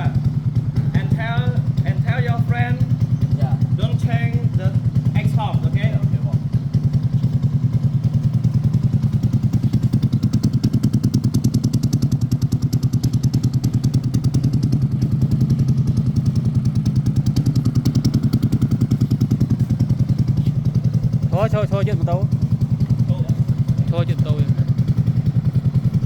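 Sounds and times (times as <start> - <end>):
loud motorcycle idling: 0.0 - 26.0.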